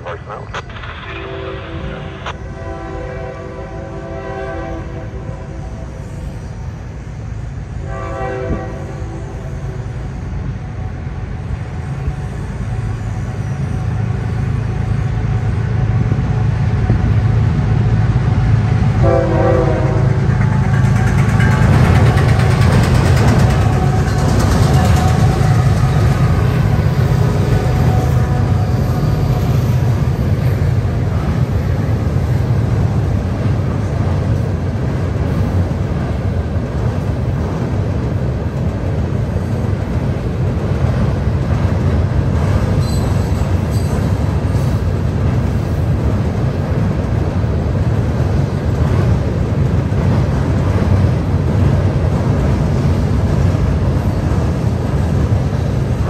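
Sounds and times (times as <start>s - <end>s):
freight cars rumbling: 10.1s - 56.0s
locomotive engine: 10.6s - 56.0s.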